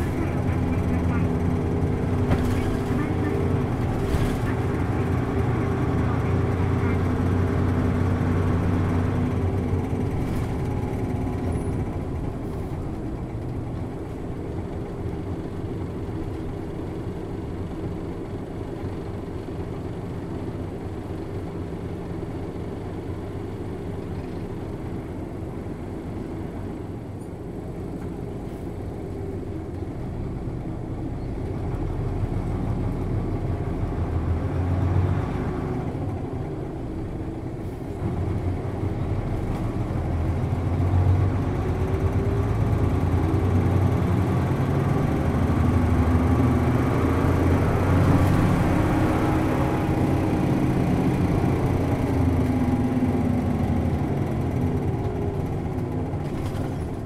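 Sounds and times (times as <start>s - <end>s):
bus diesel engine from inside: 0.0s - 57.0s.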